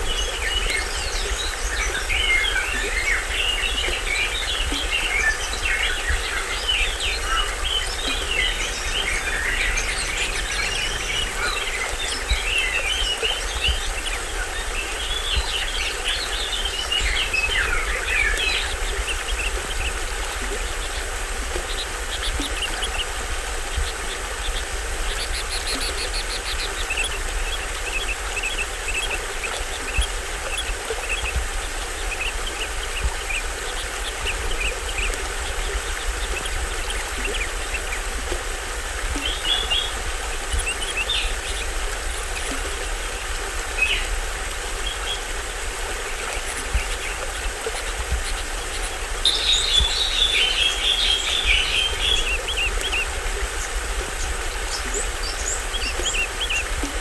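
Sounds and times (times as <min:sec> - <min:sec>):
birds chirping: 0:00.0 - 0:57.0
small waterfall rushing: 0:00.0 - 0:57.0.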